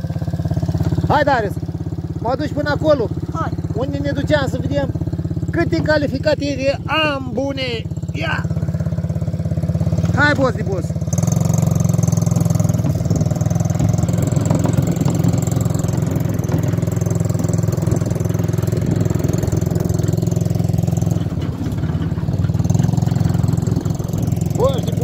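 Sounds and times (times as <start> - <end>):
atv engine running at low revs: 0.0 - 25.0.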